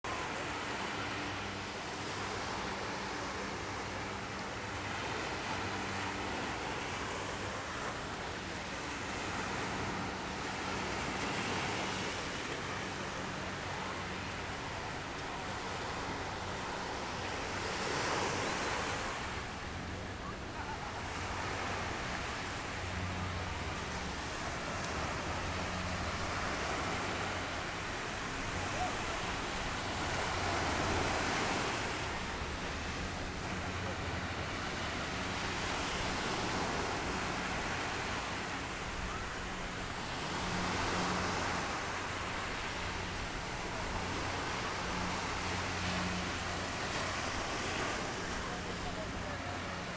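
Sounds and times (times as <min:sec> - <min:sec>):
small waves breaking on sand: 0:00.0 - 0:49.9.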